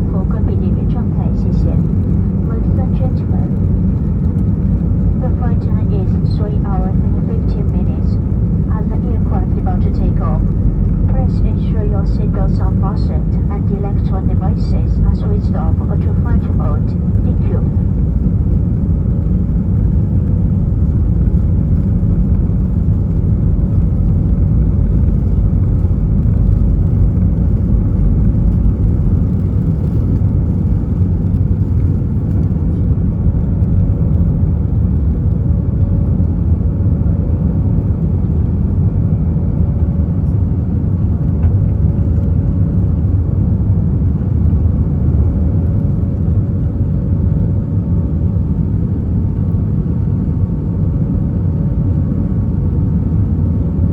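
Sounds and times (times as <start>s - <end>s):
faint steady hum: 0.0s - 53.9s
jet engines at take-off power: 0.0s - 53.9s.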